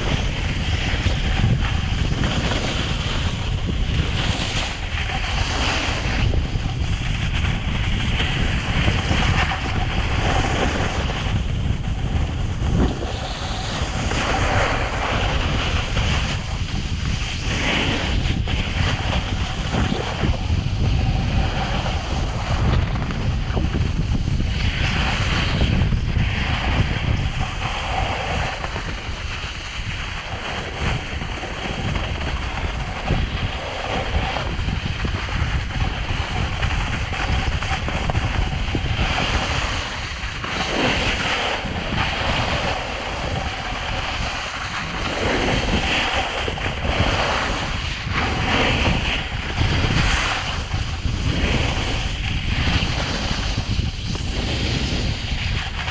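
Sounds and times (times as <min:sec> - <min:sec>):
snowboard edges scraping snow: 0:00.0 - 0:23.0, 0:24.0 - 0:55.9
wind buffeting microphone: 0:00.0 - 0:55.9.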